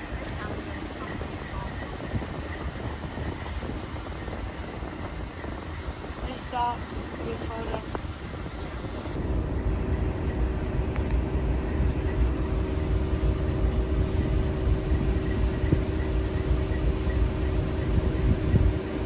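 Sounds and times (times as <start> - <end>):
faint steady hum: 0.0 - 19.0
low engine rumble: 0.0 - 19.0.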